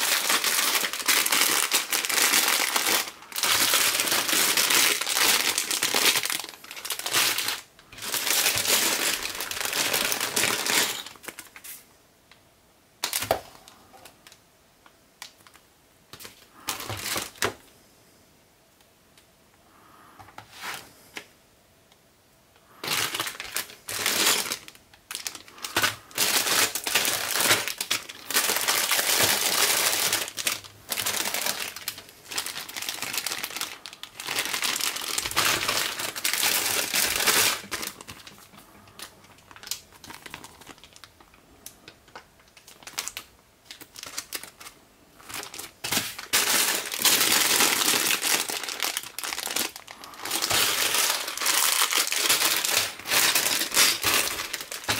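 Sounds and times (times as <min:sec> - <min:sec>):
plastic bags crinkling: 0:00.0 - 0:11.8, 0:13.0 - 0:14.4, 0:15.2 - 0:17.7, 0:22.7 - 0:54.9.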